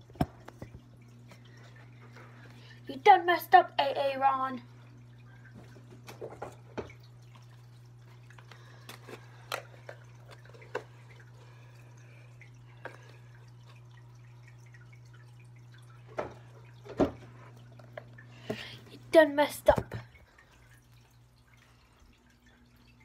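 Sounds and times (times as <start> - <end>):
aquarium filter humming: 0.0 - 23.0
water drips: 0.0 - 23.0.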